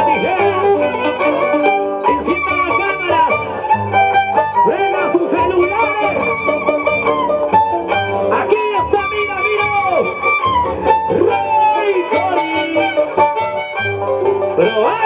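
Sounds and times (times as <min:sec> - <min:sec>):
plucked low string notes: 0:00.0 - 0:15.0
violin melody: 0:00.0 - 0:15.0.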